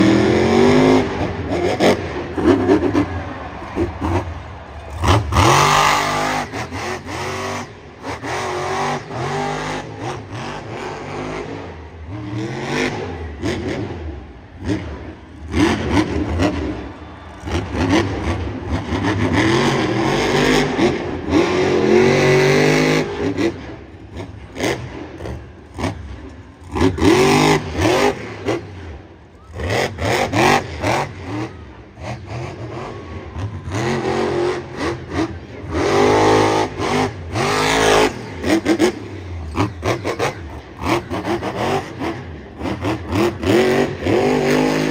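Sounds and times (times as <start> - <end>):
monster truck engine revving: 0.0 - 44.9.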